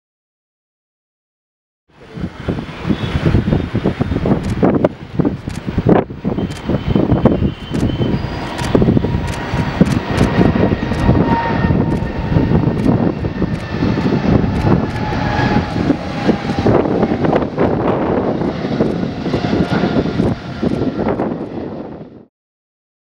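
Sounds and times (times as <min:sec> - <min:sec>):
jet engine roar: 0:01.9 - 0:22.3.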